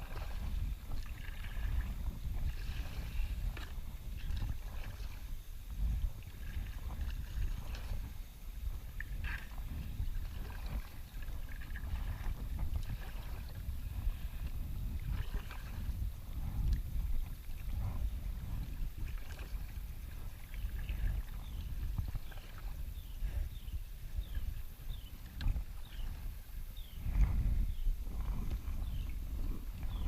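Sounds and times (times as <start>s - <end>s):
wind and water low rumble: 0.0s - 30.0s.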